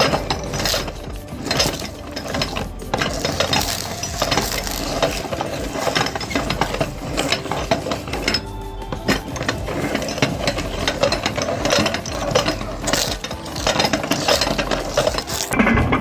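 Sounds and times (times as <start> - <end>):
crunching crackle: 0.0 - 15.6.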